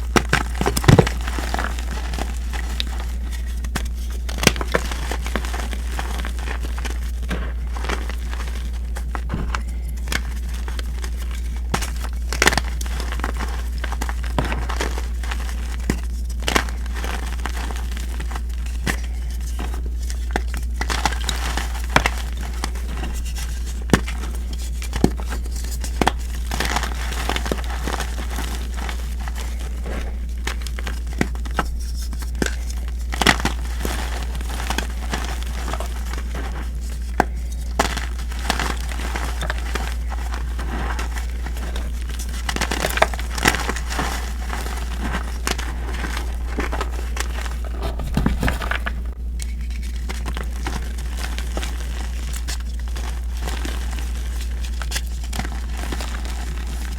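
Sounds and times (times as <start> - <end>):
chalk crunching and crackling: 0.0 - 56.9
steady low hum: 0.0 - 56.9.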